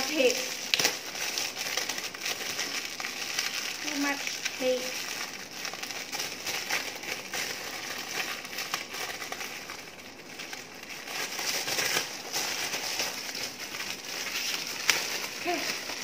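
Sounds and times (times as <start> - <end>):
plastic wrap crinkling: 0.0 - 16.0.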